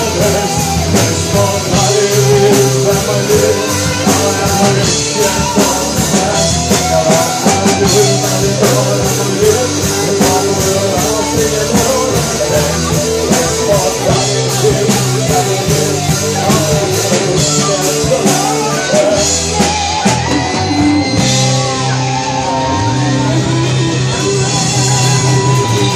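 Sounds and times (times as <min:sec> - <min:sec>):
drum kit steady beat: 0:00.0 - 0:25.9
rock band playing live: 0:00.0 - 0:25.9.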